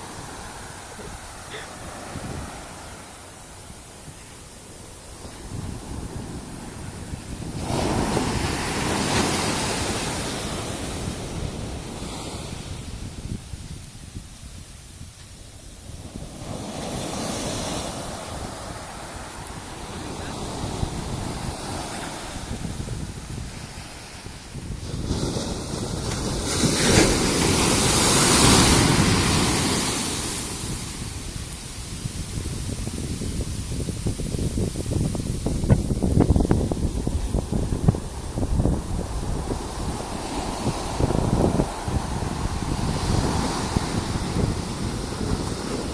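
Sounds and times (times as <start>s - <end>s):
wave breaking on beach: 0.0s - 13.6s, 15.8s - 45.9s
wind rumbling on microphone: 0.0s - 45.9s.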